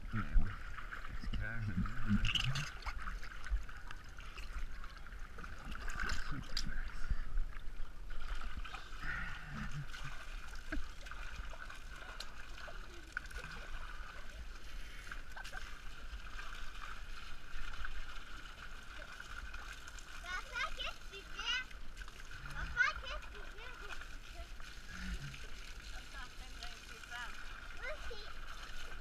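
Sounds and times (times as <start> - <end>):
pool water sloshing and splashing: 0.0 - 29.0
small water splashes: 0.0 - 29.0.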